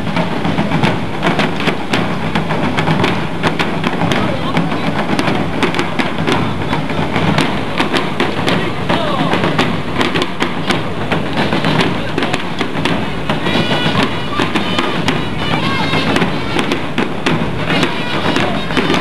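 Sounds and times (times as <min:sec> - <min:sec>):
sharp cracks and knocks: 0:00.0 - 0:19.0
many voices talking: 0:02.6 - 0:19.0.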